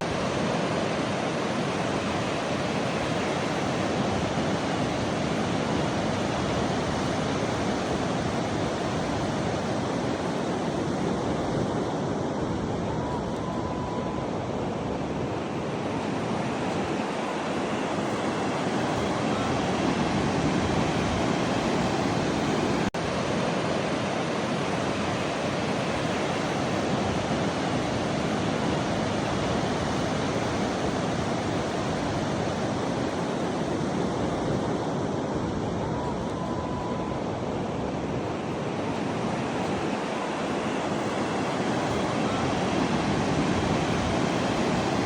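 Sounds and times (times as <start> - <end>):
ocean surf rushing: 0.0 - 45.0.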